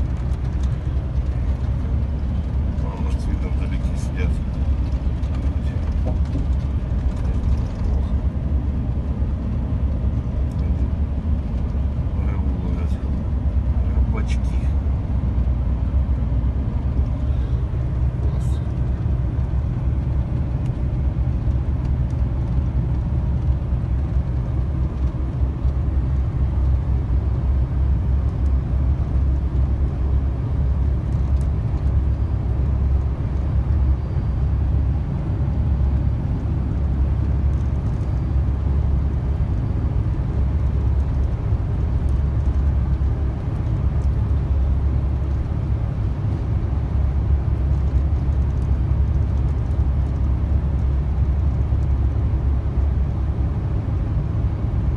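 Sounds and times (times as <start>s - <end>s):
truck engine and road rumble: 0.0s - 54.9s.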